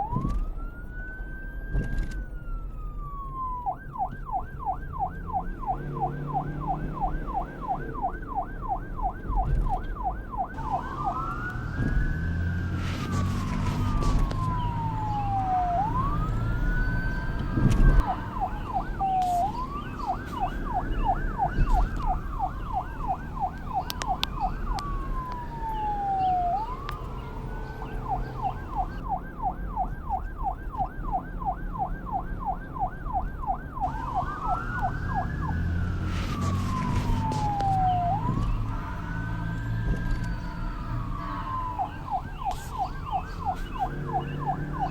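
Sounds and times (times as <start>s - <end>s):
low vehicle rumble: 0.0s - 44.9s
police siren yelp and wail: 0.0s - 44.9s.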